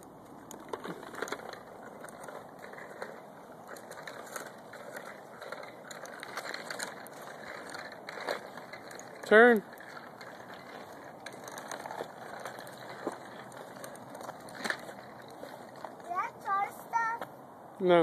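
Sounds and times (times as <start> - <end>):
small bicycle rolling on asphalt: 0.0 - 17.4.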